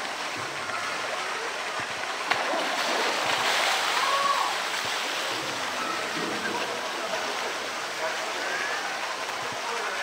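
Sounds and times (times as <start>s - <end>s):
steady rush of water: 0.0s - 10.0s
water splashing off animal: 0.1s - 10.0s.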